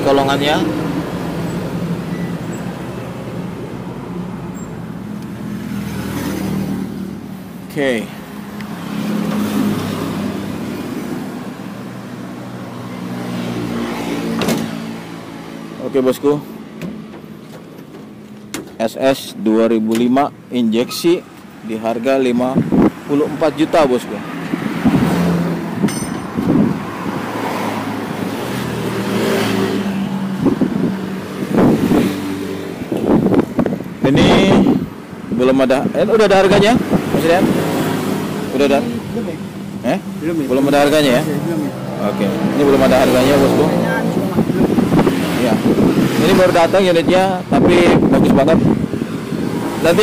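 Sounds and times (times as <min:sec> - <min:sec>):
street noise: 0:00.0 - 0:50.0.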